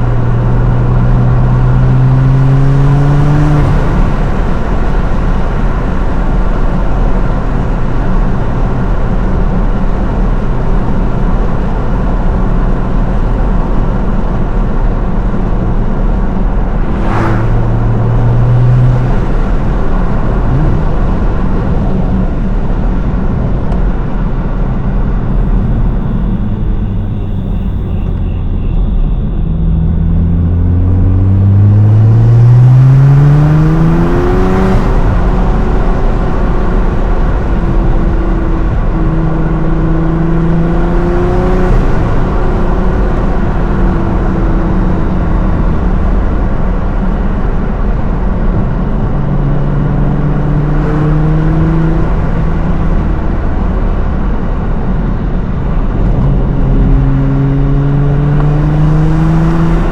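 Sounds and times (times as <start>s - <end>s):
car engine accelerating hard: 0.0s - 28.0s, 29.5s - 59.9s
road noise rumble: 0.0s - 59.9s.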